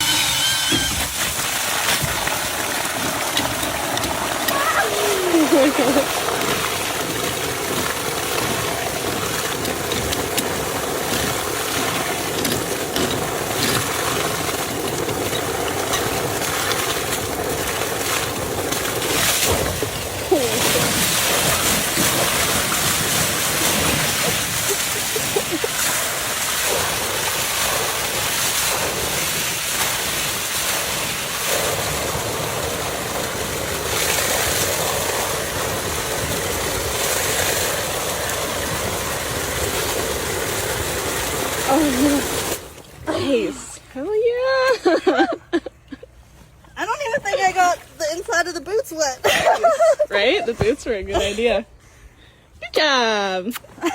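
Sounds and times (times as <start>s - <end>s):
rushing water: 0.0s - 44.1s.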